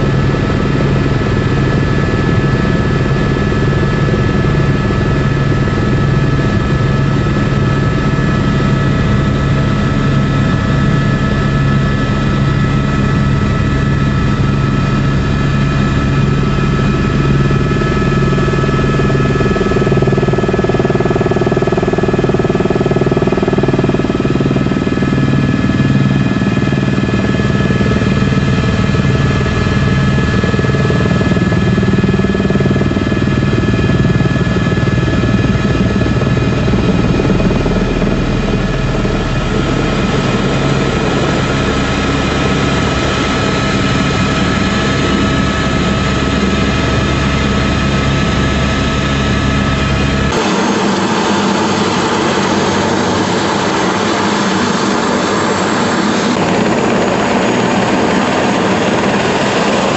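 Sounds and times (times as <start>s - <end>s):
helicopter engine whine: 0.0s - 59.9s
helicopter rotor beat: 0.0s - 59.9s.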